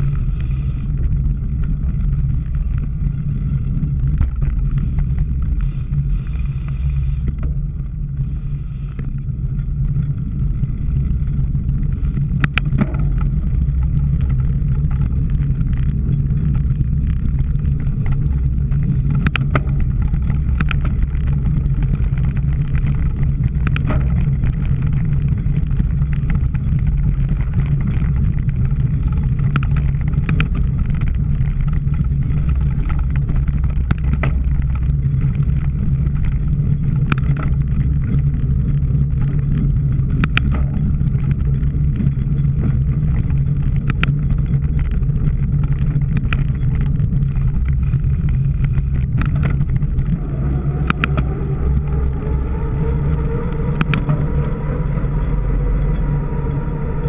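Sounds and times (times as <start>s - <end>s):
bike clicks and rattles: 0.0s - 57.0s
wind rumble on microphone: 0.0s - 57.0s.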